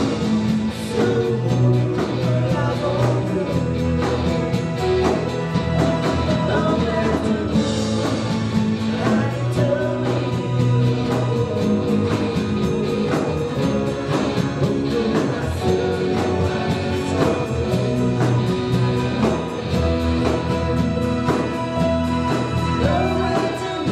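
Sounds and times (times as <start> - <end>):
electric guitar: 0.0 - 23.9
keyboard: 0.0 - 23.9
person singing: 0.0 - 23.9
steady drum beat: 0.0 - 23.9.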